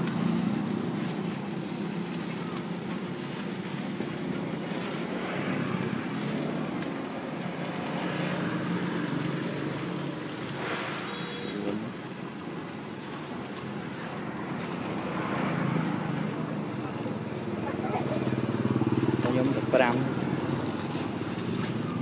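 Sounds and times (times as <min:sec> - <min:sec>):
plastic bags rustling: 0:00.0 - 0:22.0
street traffic drone: 0:00.0 - 0:22.0.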